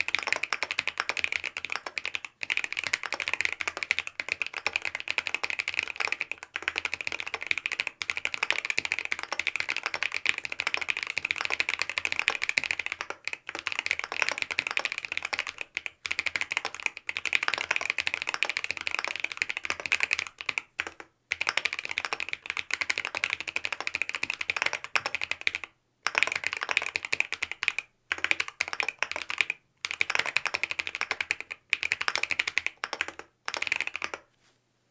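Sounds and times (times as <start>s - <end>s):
mechanical keyboard typing: 0.0s - 34.2s.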